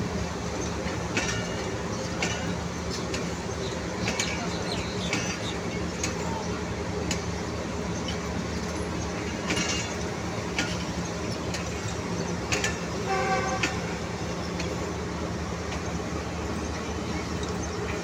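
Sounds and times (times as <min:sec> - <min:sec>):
train coaches rumbling on track: 0:00.0 - 0:18.0.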